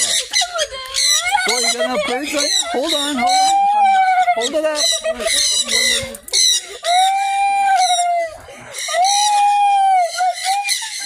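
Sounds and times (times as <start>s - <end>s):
bird long arching calls: 0.0s - 11.0s.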